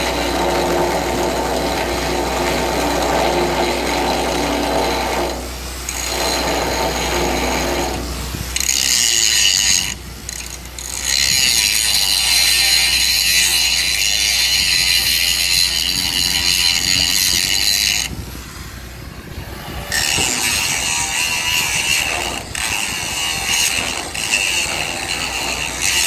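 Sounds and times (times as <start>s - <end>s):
arc gouging crackling rasp: 0.0s - 26.0s.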